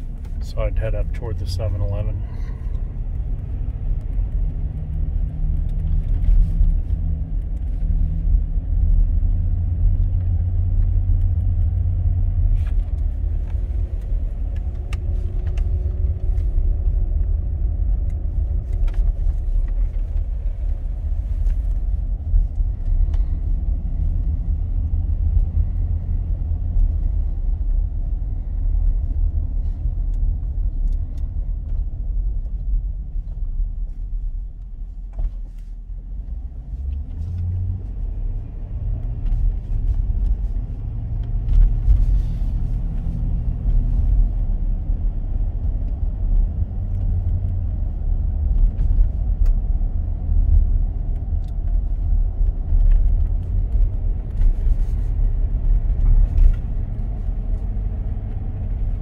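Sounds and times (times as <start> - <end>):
car interior engine and road rumble: 0.0 - 59.0.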